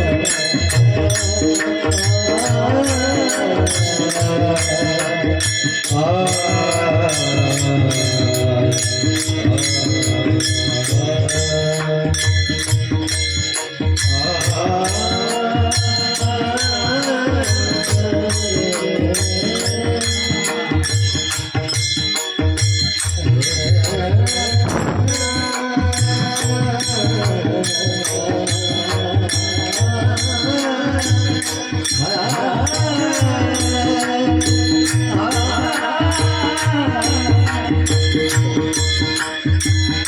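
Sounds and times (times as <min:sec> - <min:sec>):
man chanting: 0:00.0 - 0:12.8, 0:14.0 - 0:21.4, 0:23.1 - 0:39.2
hand drum: 0:00.0 - 0:40.0
rhythmic jingling: 0:00.0 - 0:40.0.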